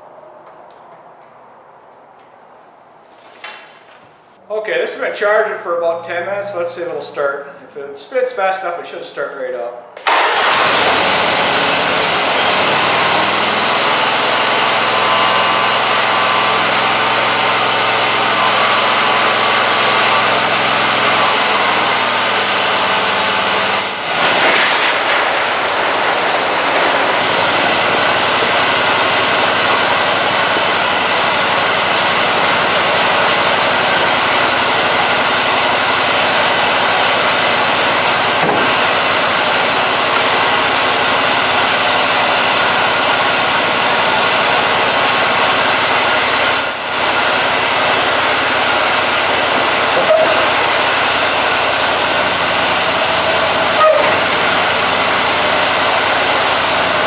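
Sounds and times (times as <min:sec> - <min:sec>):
mower engine running: 0:10.0 - 0:57.0.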